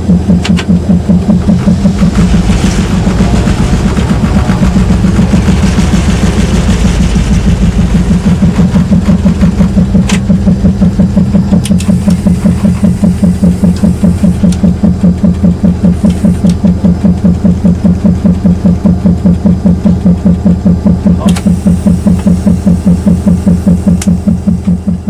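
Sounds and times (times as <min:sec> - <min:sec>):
diesel locomotive engine pulsing: 0:00.0 - 0:25.0.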